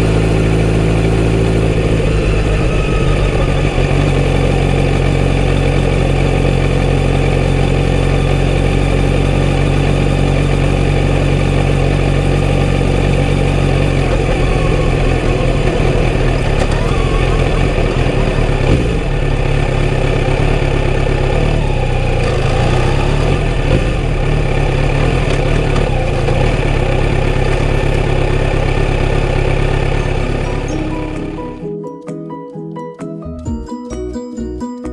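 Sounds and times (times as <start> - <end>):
motorcycle engine running: 0.0 - 31.7.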